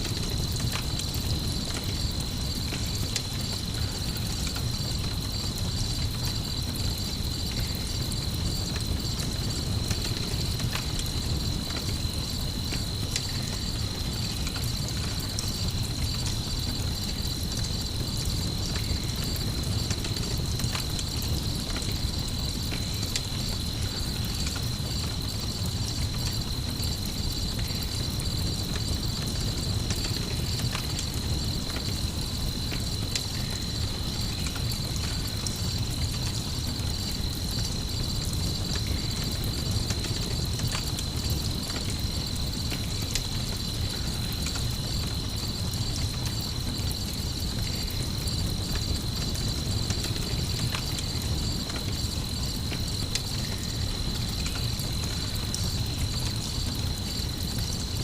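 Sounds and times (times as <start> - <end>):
campfire crackling: 0.0 - 58.0
crickets trilling: 0.0 - 58.0.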